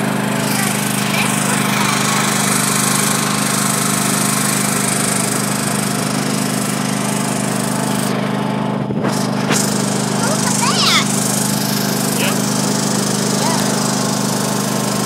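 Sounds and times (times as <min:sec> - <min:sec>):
riding lawn mower engine: 0:00.0 - 0:15.0.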